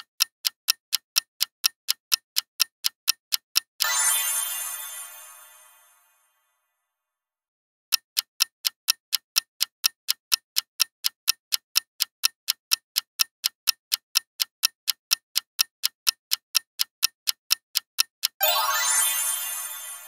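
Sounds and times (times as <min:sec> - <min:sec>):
clock ticking: 0:00.0 - 0:05.2, 0:07.9 - 0:20.0.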